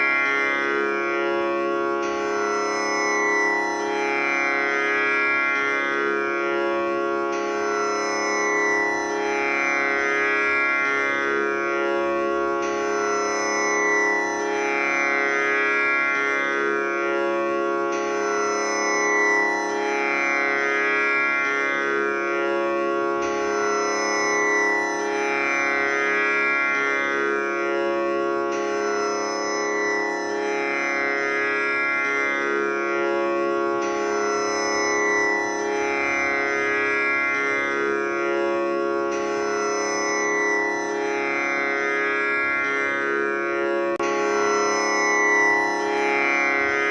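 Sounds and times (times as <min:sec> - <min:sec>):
tanpura drone: 0:00.0 - 0:46.9.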